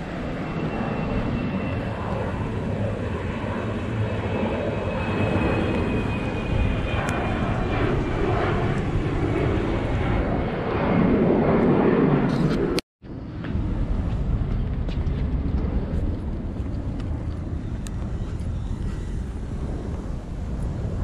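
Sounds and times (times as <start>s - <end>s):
airplane flying overhead: 0.0s - 21.0s.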